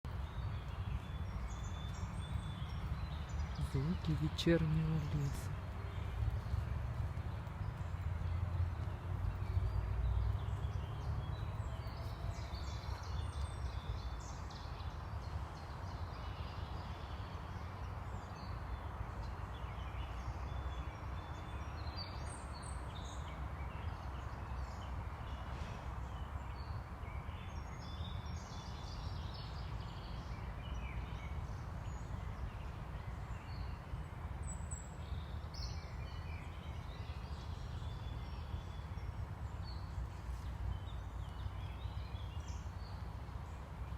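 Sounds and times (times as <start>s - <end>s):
small birds singing: 0.0s - 43.9s.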